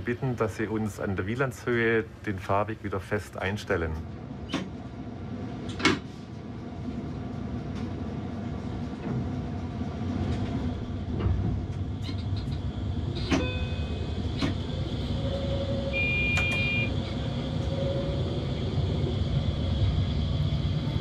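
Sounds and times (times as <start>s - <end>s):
railcar low rumble: 0.0s - 21.0s.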